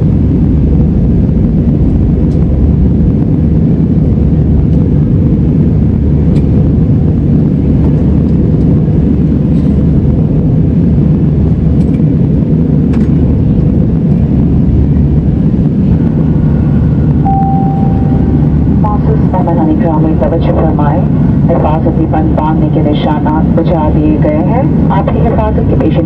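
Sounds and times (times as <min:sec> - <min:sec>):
rushing air: 0:00.0 - 0:21.6
jet engines roaring: 0:00.0 - 0:26.0.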